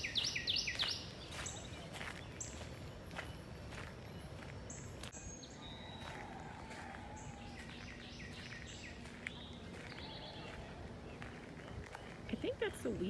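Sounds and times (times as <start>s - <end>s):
low background noise: 0.0s - 13.0s
songbirds chirping: 0.0s - 13.0s.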